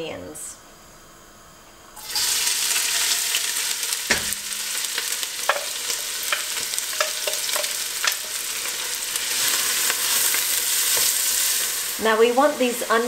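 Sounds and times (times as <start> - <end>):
onions sizzling in hot oil: 2.0 - 13.0.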